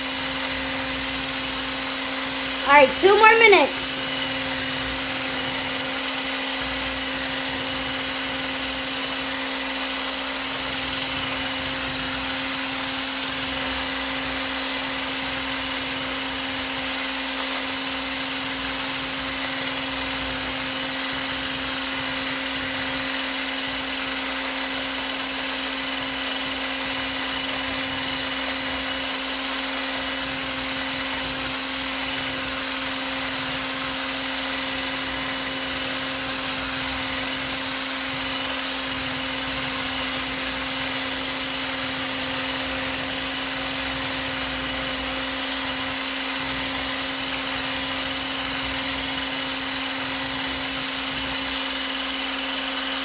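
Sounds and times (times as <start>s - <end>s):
electric mixer whining: 3.8s - 53.0s.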